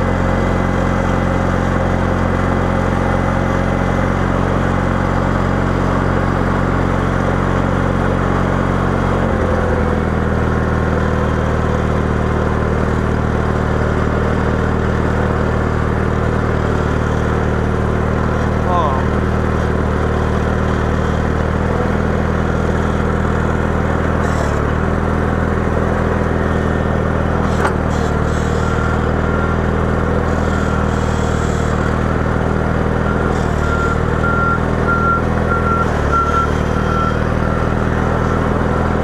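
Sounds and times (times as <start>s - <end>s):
garden tractor engine running: 0.0s - 39.0s.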